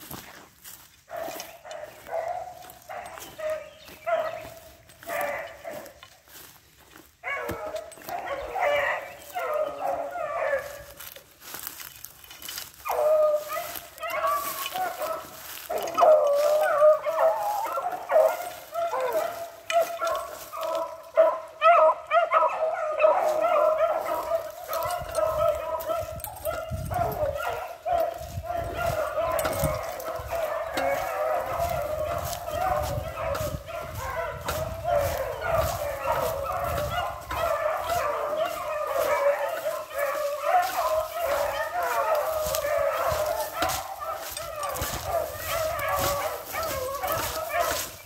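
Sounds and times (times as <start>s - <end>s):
hounds baying and barking: 0.0s - 48.0s.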